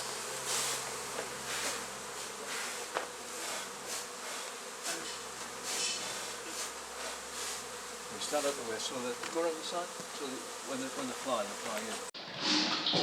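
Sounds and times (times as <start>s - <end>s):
honey bees buzzing: 0.0s - 12.2s.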